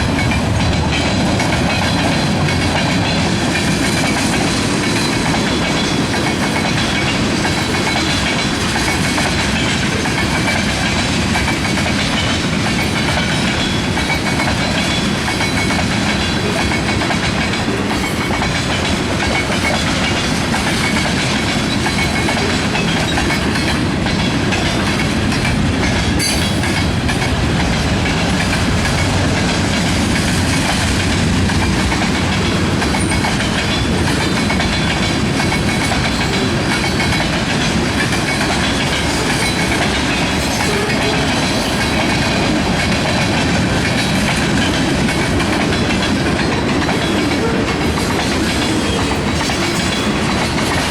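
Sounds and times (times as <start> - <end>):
freight train wheels rumbling on rail: 0.0 - 50.9.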